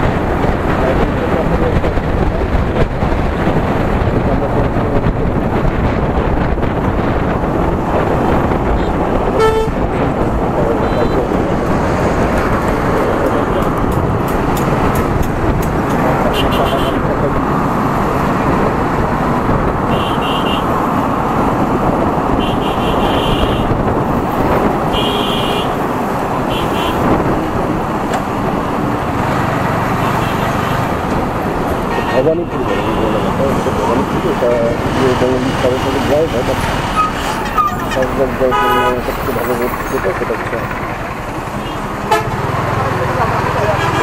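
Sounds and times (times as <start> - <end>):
wind buffeting microphone: 0.0 - 42.8
motorcycle engine and road noise: 0.0 - 44.0.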